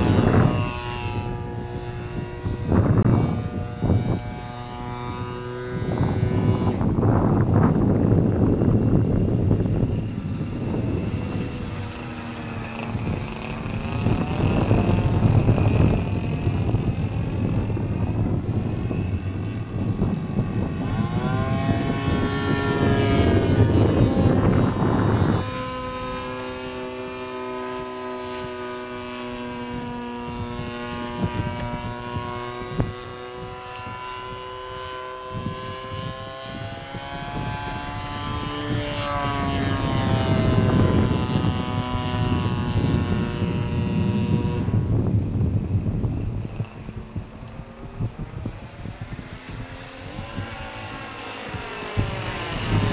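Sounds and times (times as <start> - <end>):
model plane engine in flight: 0.0 - 52.9
wind buffeting microphone: 0.0 - 52.9.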